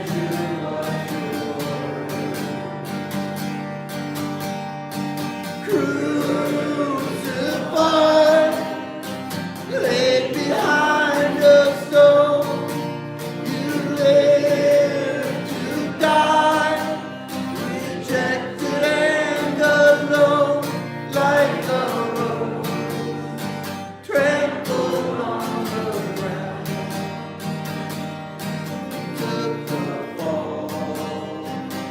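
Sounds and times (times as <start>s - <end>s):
person singing slow song: 0.0s - 3.4s, 5.5s - 27.5s, 29.0s - 31.9s
strummed acoustic guitar: 0.0s - 31.9s.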